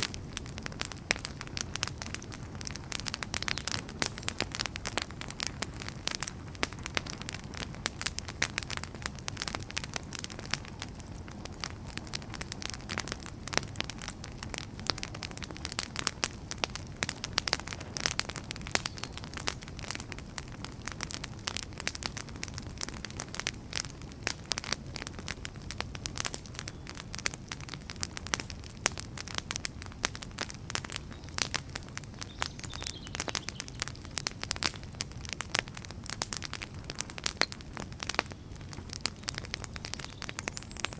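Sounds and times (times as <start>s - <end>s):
low rumble of flames: 0.0s - 40.9s
wood fire crackling and popping: 0.0s - 40.9s.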